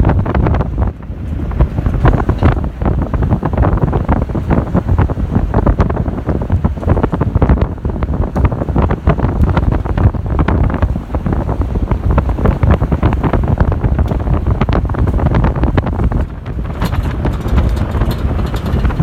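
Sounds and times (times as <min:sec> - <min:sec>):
vehicle knocks and rattles: 0:00.0 - 0:10.8, 0:11.4 - 0:19.0
low road rumble: 0:00.0 - 0:19.0
wind buffeting microphone: 0:00.0 - 0:19.0.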